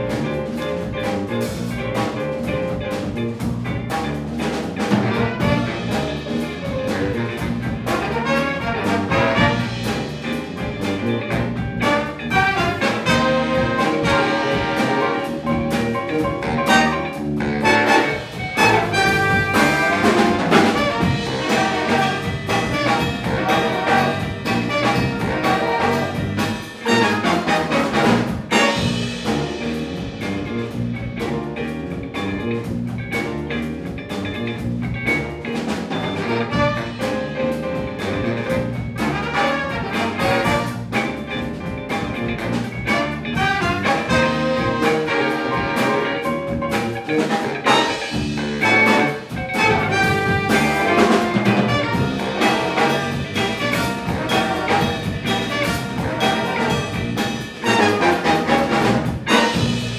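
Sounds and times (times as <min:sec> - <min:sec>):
drum kit: 0:00.0 - 0:59.9
electric bass: 0:00.0 - 0:59.9
electric guitar: 0:00.0 - 0:59.9
jazz horn section: 0:00.0 - 0:59.9
piano: 0:00.0 - 0:59.9.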